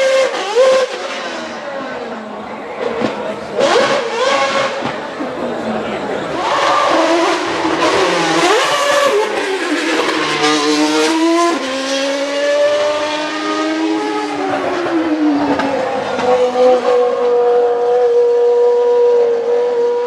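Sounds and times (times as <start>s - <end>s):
racing car engine revving: 0.0s - 20.0s.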